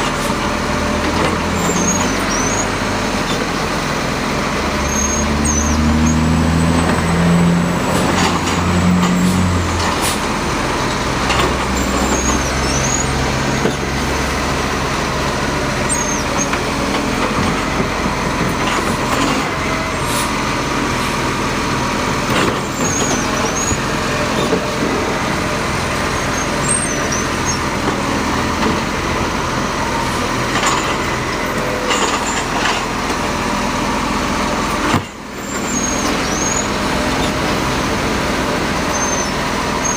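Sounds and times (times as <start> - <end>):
garbage truck engine rumble: 0.0 - 39.9.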